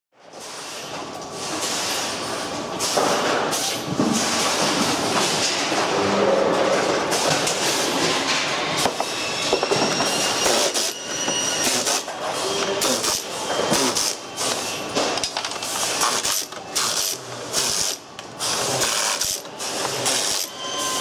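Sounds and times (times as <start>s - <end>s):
industrial machinery noise: 0.2s - 21.0s.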